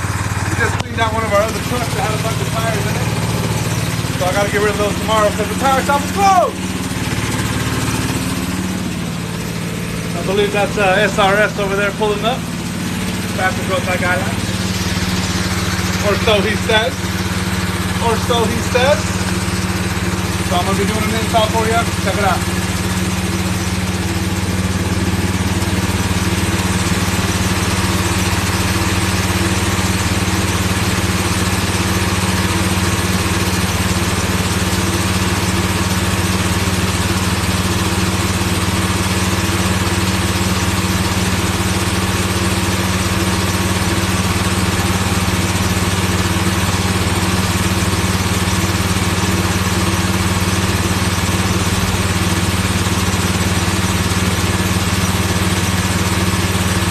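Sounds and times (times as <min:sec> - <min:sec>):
generator engine humming: 0:00.0 - 0:56.9.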